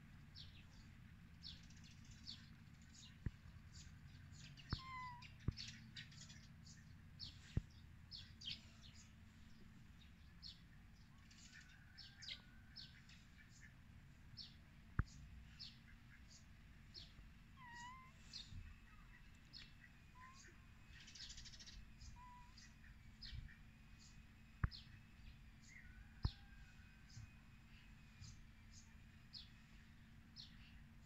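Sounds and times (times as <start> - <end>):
low steady hum: 0.0 - 31.0
small birds chirping: 0.2 - 31.0.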